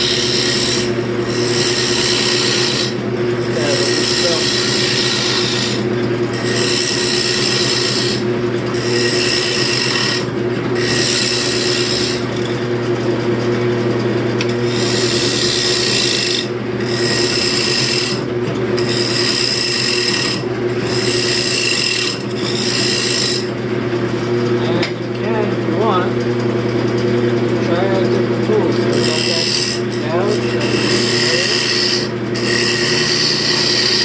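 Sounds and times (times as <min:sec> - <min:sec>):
lathe motor hum: 0:00.0 - 0:34.0
tool scraping spinning wood: 0:00.0 - 0:34.0.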